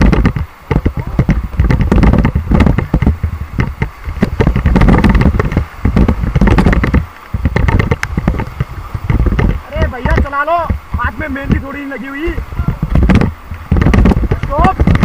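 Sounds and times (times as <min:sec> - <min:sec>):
paddle splashing river water: 0:00.0 - 0:15.0
wind buffeting microphone: 0:00.0 - 0:15.0.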